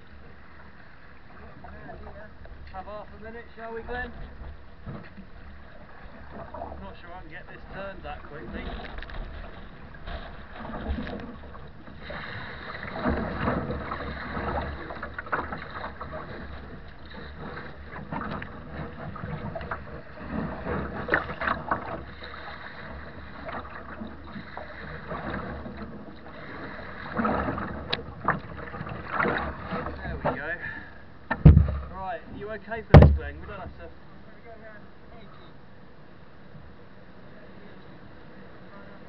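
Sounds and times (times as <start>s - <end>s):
water splashing against kayak: 0.0s - 34.6s.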